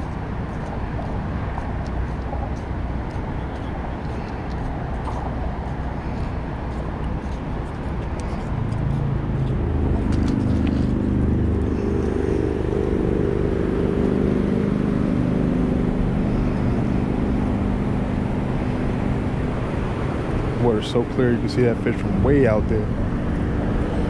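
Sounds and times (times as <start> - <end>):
vehicle engine humming: 0.0 - 24.0
low rumble: 0.8 - 24.0.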